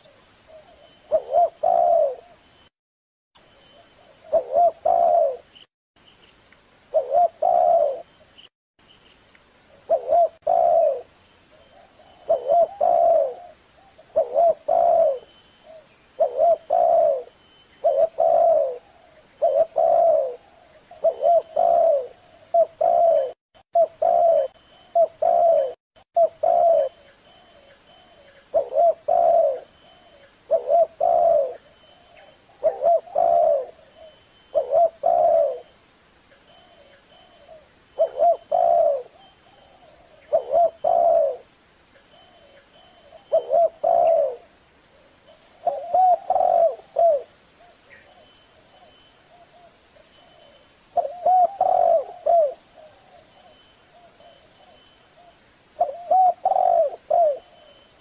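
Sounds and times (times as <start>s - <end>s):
dove cooing: 0.0s - 2.4s, 4.0s - 5.6s, 6.9s - 8.2s, 9.9s - 35.8s, 36.6s - 41.5s, 42.2s - 58.0s.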